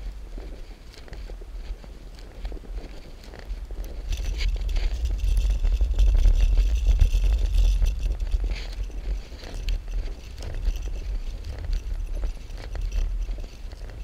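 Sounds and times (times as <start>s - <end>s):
bicycle rattling and clicking: 0.0s - 14.0s
wind buffeting microphone: 0.0s - 14.0s.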